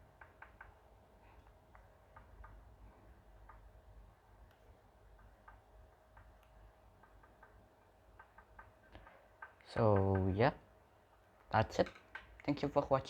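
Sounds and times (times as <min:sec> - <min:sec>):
soft ticks: 0:00.0 - 0:12.7
faint steady hum: 0:00.0 - 0:13.0.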